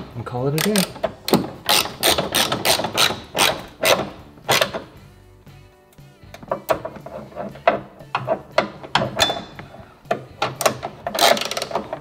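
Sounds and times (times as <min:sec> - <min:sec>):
ratchet clicking: 0:00.6 - 0:04.9, 0:06.3 - 0:12.0.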